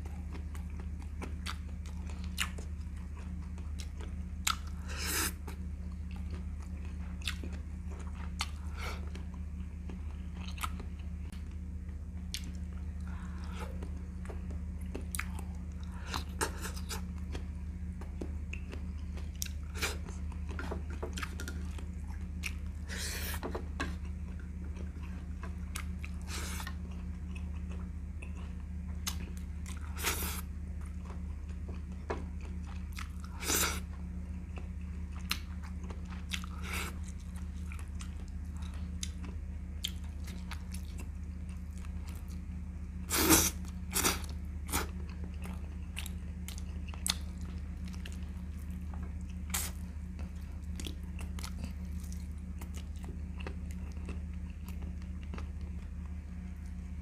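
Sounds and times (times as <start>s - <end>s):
man chewing and biting: 0.0s - 11.2s, 12.2s - 56.9s
steady low hum: 0.0s - 57.0s.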